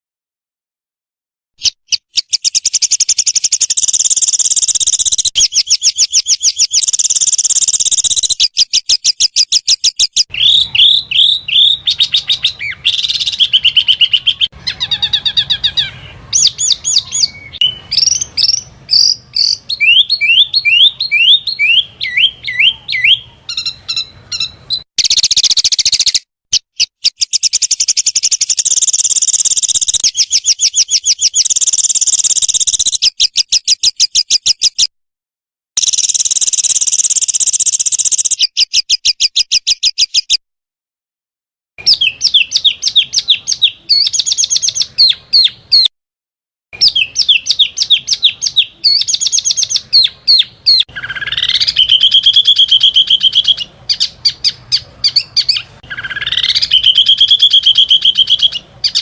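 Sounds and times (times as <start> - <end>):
songbirds trilling: 1.6 - 34.6, 35.8 - 40.1, 41.8 - 45.9, 46.8 - 59.0.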